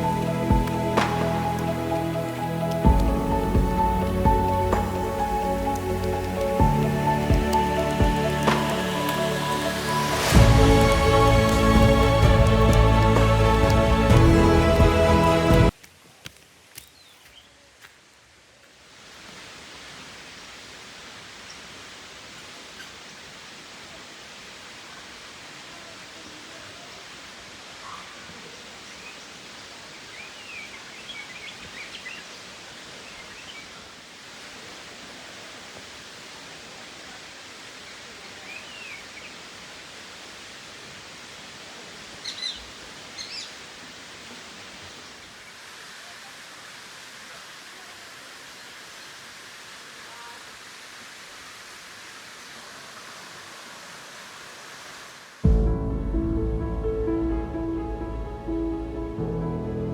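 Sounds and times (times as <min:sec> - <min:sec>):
waterfall rushing: 0:00.0 - 0:15.8, 0:19.0 - 0:59.9.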